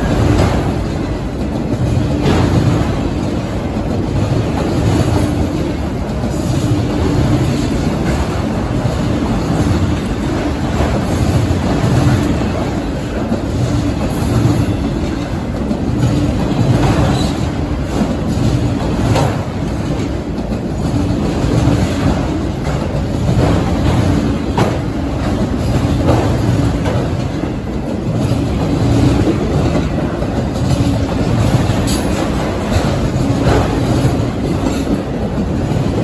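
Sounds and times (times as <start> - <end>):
freight cars rumbling on rails: 0.0 - 36.0.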